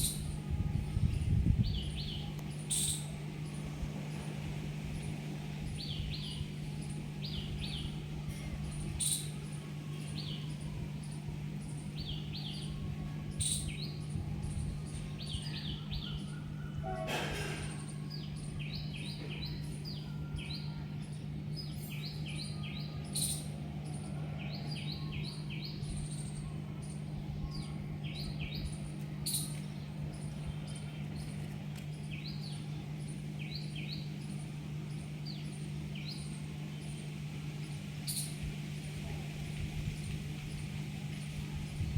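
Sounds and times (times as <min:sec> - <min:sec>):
small birds chirping: 0:00.0 - 0:41.9
steady low hum: 0:00.0 - 0:41.9.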